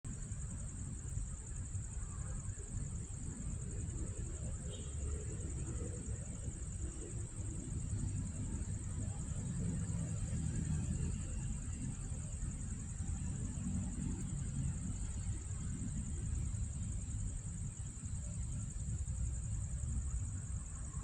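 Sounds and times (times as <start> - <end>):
insects chirring: 0.1 - 21.0.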